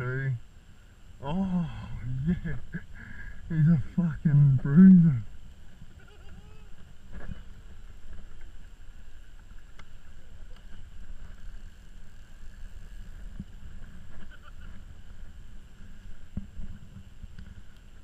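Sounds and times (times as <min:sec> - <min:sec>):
wind rumble on microphone: 0:01.0 - 0:18.0.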